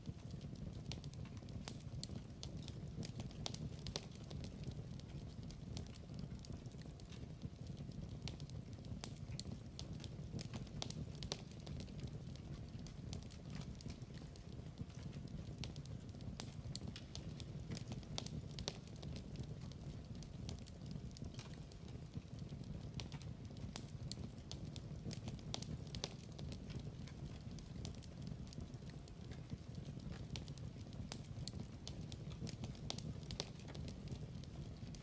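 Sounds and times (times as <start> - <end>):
fire crackling and popping: 0.0 - 35.0
fire rumbling: 0.0 - 35.0.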